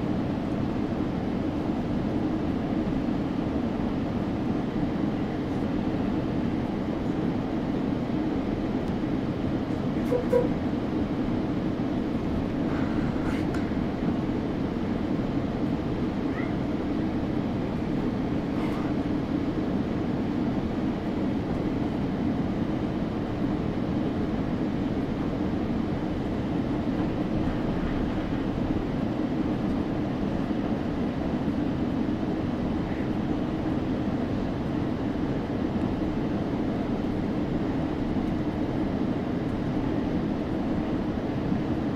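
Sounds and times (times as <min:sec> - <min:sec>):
passenger train rumbling on track: 0:00.0 - 0:41.9.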